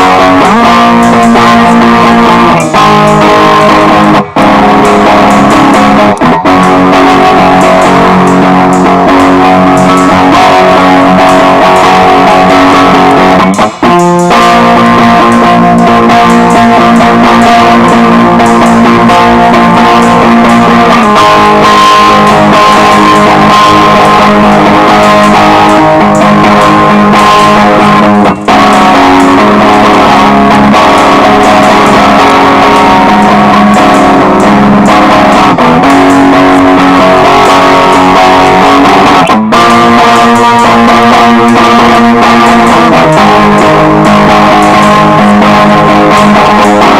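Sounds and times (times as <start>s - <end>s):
bass and drums: 0.0s - 46.9s
electric guitars strummed: 0.0s - 46.9s
instrumental rock music: 0.0s - 46.9s.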